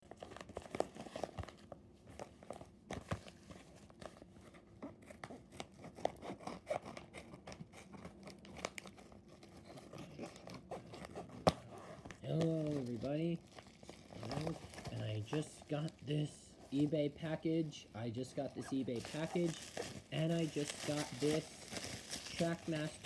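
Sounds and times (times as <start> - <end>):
packaging crinkling and tearing: 0.0 - 23.0.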